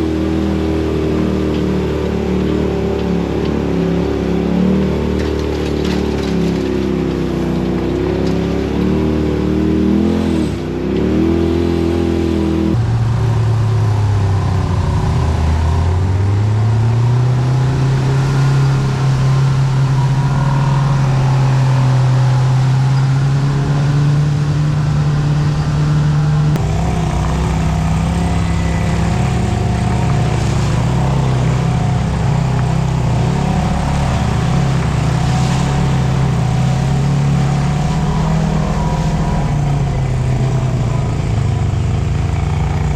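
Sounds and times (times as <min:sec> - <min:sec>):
utility vehicle engine running: 0:00.0 - 0:42.9.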